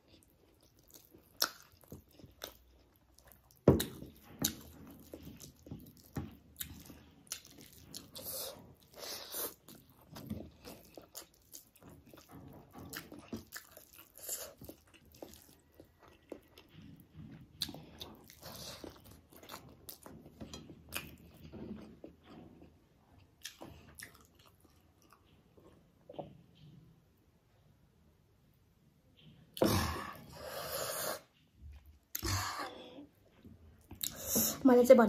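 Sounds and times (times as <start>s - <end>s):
person chewing food: 0.0s - 26.7s, 29.5s - 34.6s.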